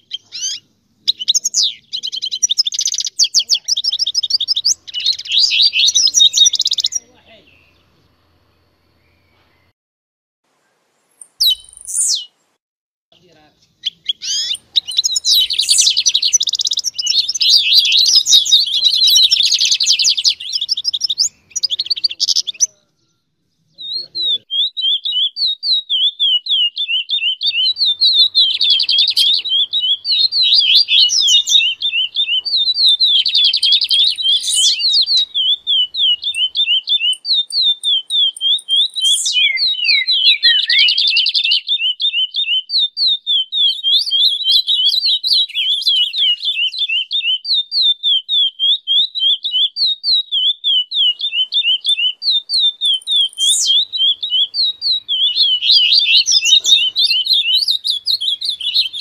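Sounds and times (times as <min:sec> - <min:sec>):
bird repeating quick sweeping chirps: 0:00.0 - 0:07.7, 0:11.2 - 0:12.4, 0:13.7 - 0:22.8, 0:23.8 - 0:59.0
songbirds chirping and warbling: 0:00.0 - 0:09.7, 0:10.5 - 0:12.6, 0:13.2 - 0:59.0.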